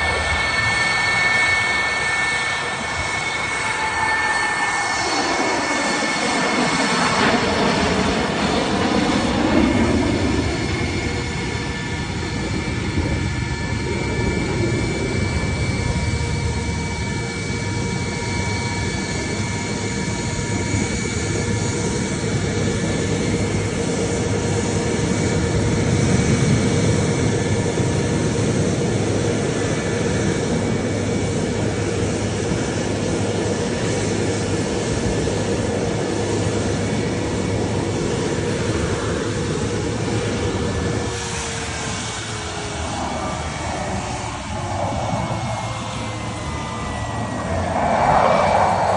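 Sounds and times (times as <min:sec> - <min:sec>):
jet engine roar with whine: 0:00.0 - 0:48.9.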